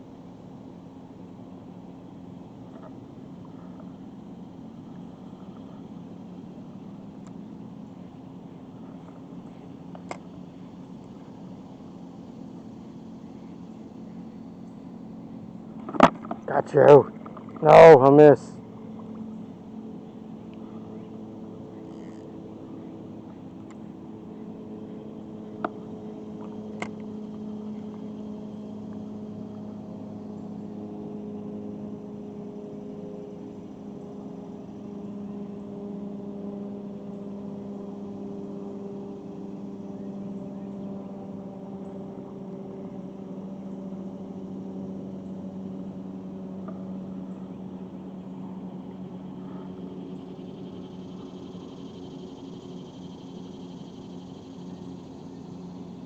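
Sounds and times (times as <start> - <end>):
low motor hum: 0.0 - 56.0.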